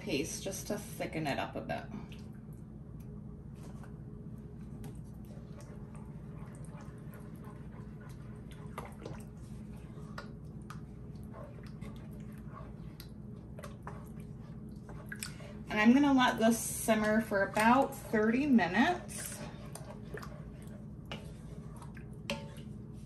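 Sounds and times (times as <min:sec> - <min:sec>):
spoon stirring thick sauce: 0:03.6 - 0:23.0.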